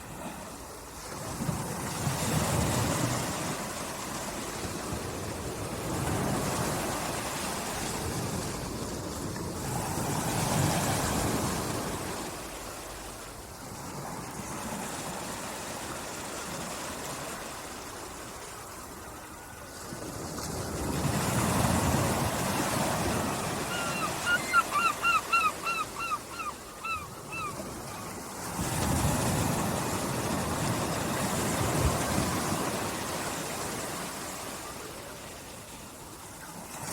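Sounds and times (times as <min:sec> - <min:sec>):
sea waves washing onto beach: 0:00.0 - 0:36.9.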